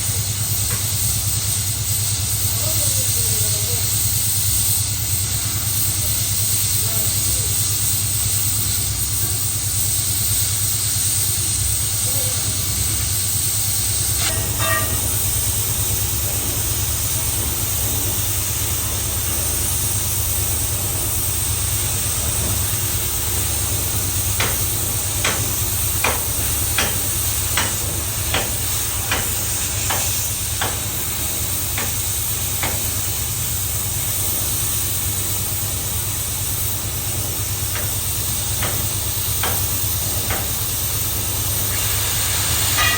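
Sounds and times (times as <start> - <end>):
boring machine hissing and humming: 0.0 - 42.9.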